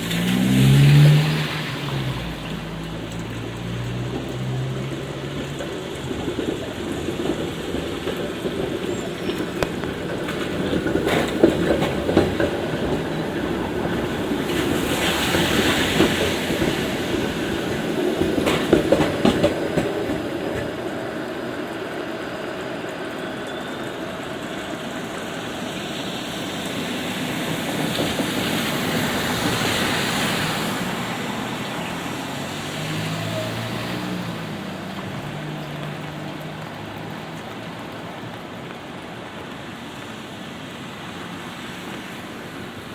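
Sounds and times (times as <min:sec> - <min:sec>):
sharp track clacks: 0:00.0 - 0:37.6
rail vehicle running on tracks: 0:00.0 - 0:42.9
rain: 0:00.0 - 0:42.9.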